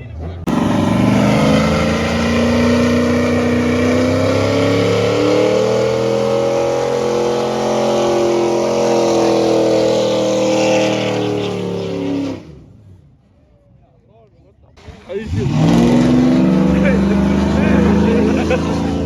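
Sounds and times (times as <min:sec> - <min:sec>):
car engine revving: 0:00.0 - 0:13.0, 0:14.8 - 0:19.0.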